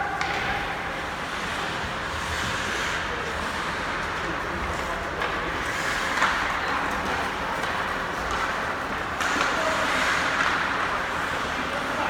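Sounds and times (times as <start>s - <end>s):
skates scraping ice: 0.1s - 12.0s.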